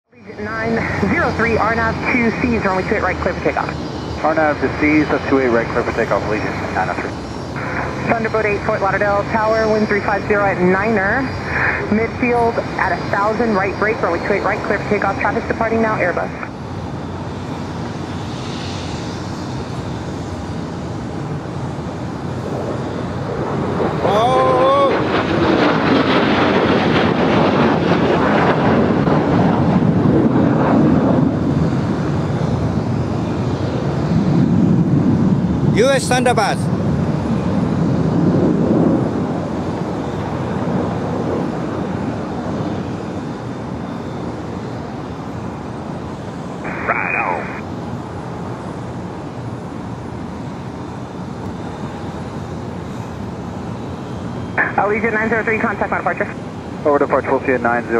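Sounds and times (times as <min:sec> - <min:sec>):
distant jet engines rumbling: 0:00.2 - 0:57.9.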